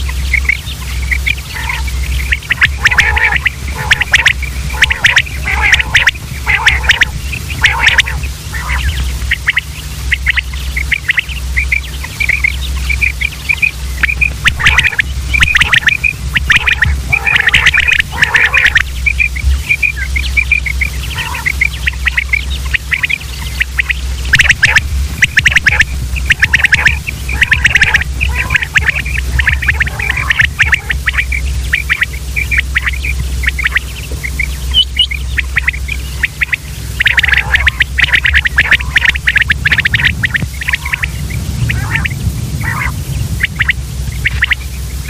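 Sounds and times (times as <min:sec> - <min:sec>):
quail calling: 0:00.0 - 0:45.0
steady low hum: 0:00.0 - 0:45.0.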